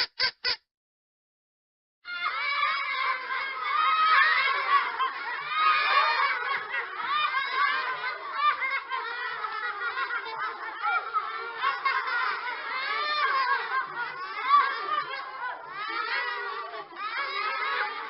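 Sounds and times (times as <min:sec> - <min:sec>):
children laughing: 0:00.0 - 0:00.6, 0:02.1 - 0:18.0.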